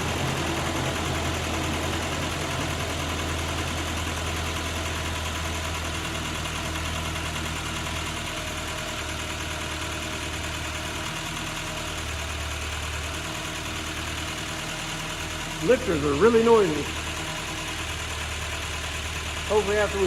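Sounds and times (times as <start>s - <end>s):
car engine idling: 0.0s - 20.0s
noisy engine lifters ticking: 0.0s - 20.0s.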